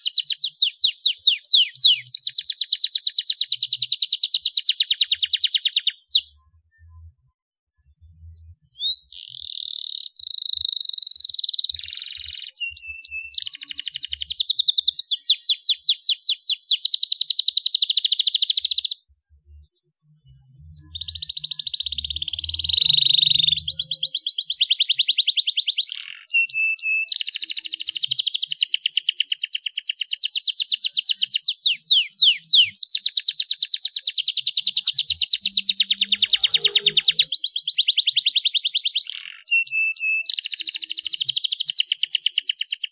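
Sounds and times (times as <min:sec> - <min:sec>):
canary singing trills: 0:00.0 - 0:07.1, 0:08.0 - 0:42.9.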